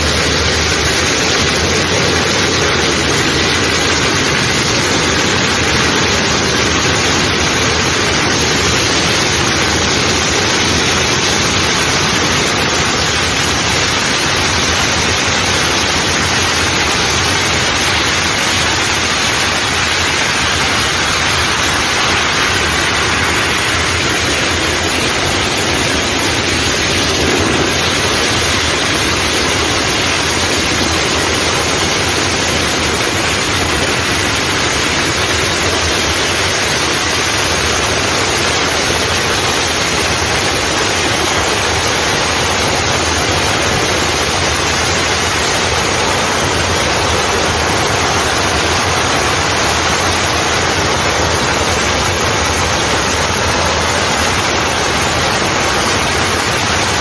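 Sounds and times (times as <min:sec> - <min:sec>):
loud rushing hiss: 0:00.0 - 0:57.0.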